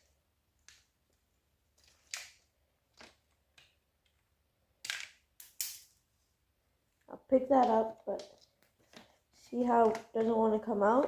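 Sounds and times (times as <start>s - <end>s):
faint clicks and rustles of handling: 0.0s - 4.4s, 5.9s - 11.0s.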